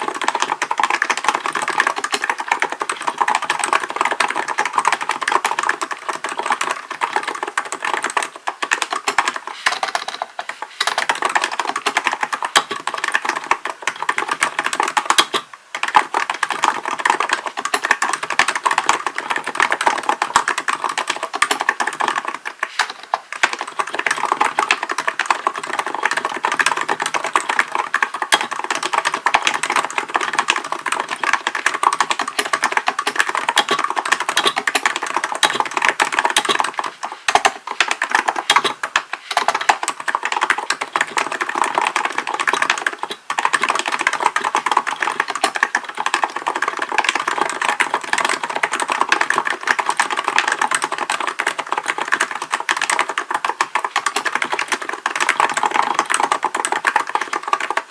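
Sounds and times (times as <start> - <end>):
fast keyboard typing: 0.0 - 57.9.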